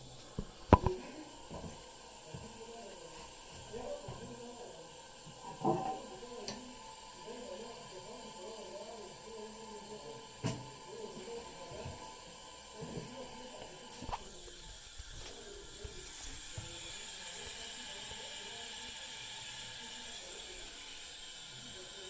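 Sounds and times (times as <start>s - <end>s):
toilet tank refilling hiss: 0.0s - 22.0s.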